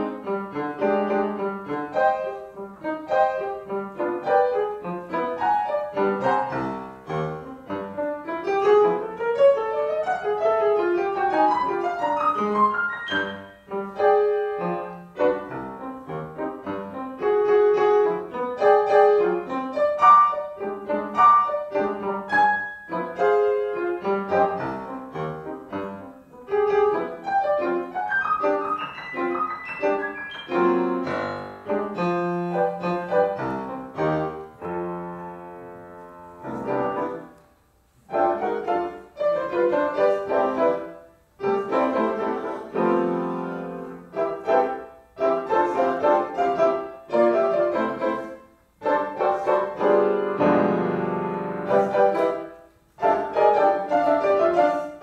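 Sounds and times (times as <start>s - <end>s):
solo piano improvisation: 0.0s - 55.0s.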